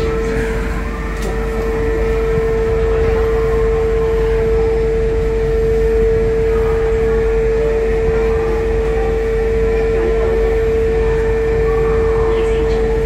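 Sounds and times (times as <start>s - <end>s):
constant mid-pitched tone: 0.0s - 13.0s
funicular car mechanical hum: 0.0s - 13.0s
low rumble: 0.0s - 13.0s.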